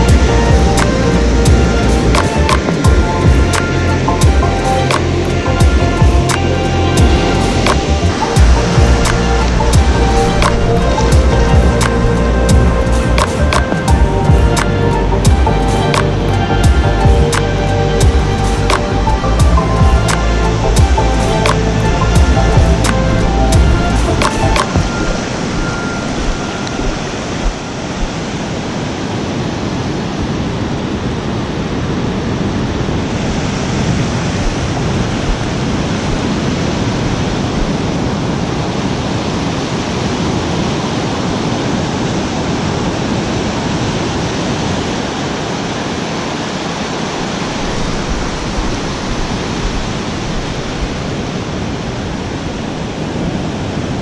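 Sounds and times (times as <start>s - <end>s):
surf washing over sand: 0.0s - 54.0s.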